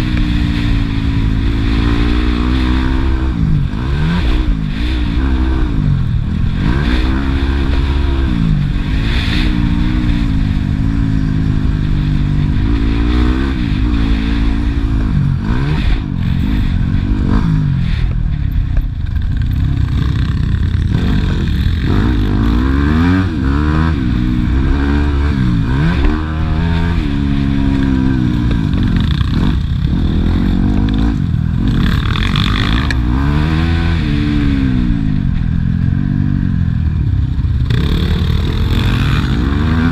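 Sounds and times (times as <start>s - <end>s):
low rumble: 0.0s - 39.9s
motorcycle engine revving: 0.0s - 39.9s.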